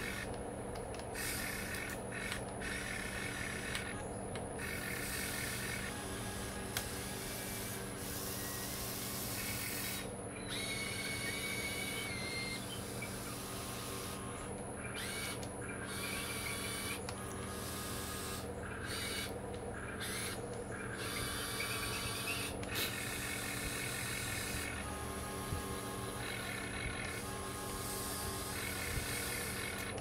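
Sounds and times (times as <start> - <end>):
small electric motors whirring: 0.0 - 30.0
steady low hum: 0.0 - 30.0.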